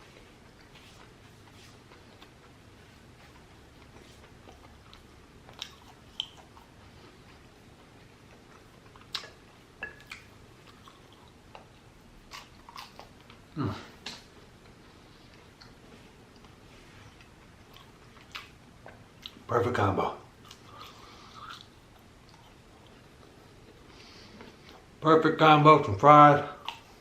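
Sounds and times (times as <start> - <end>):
crunchy chewing: 0.0 - 19.5, 20.4 - 24.9.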